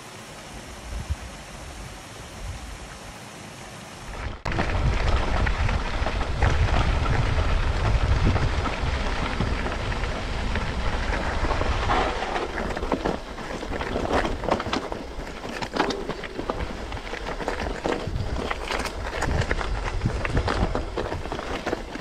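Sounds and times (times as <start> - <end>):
wind rumbling on microphone: 0.5 - 3.2, 4.0 - 22.0
bike rattling: 4.0 - 22.0
tyres crunching over rocks: 4.1 - 22.0.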